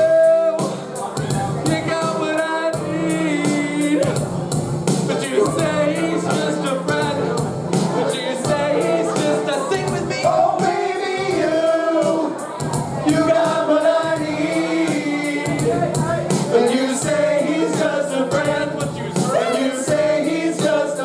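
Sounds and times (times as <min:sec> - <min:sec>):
backing track with steady beat: 0:00.0 - 0:21.0
vocal quartet singing in harmony: 0:00.0 - 0:21.0.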